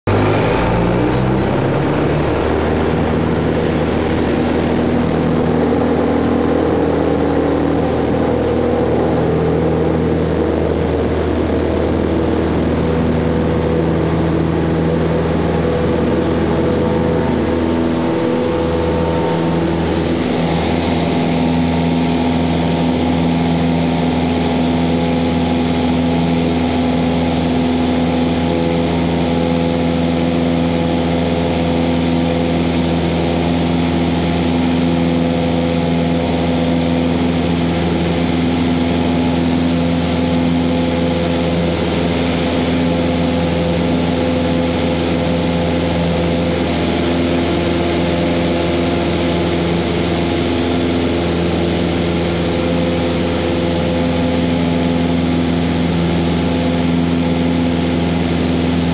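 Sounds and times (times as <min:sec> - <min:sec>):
propeller plane engine drone: 0:00.0 - 0:58.9.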